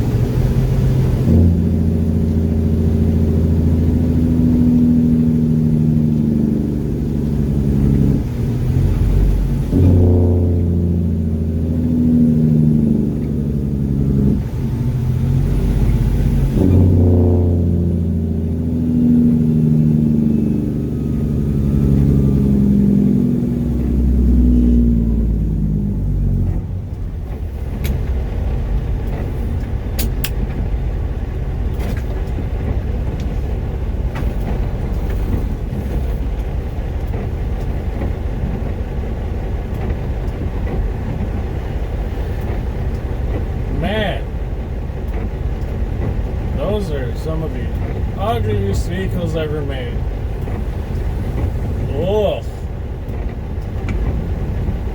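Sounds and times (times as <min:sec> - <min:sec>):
truck diesel engine shifting gears: 0:00.0 - 0:54.9.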